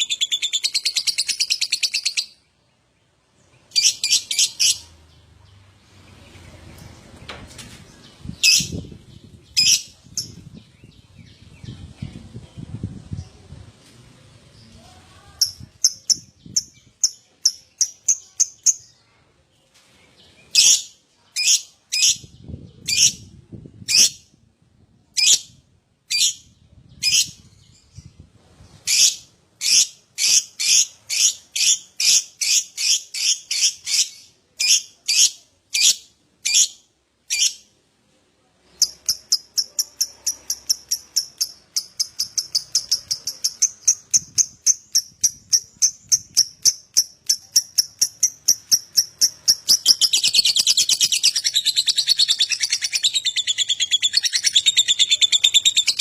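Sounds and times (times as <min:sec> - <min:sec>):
lovebird chirping and chattering: 0:00.0 - 0:02.5, 0:03.5 - 0:05.4, 0:08.0 - 0:12.4, 0:15.4 - 0:19.0, 0:20.4 - 0:24.4, 0:25.1 - 0:37.7, 0:38.7 - 0:56.0.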